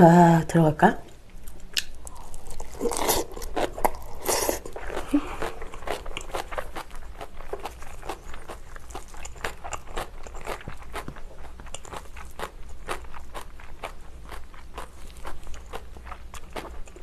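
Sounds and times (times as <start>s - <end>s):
crunchy chewing: 1.3s - 17.0s.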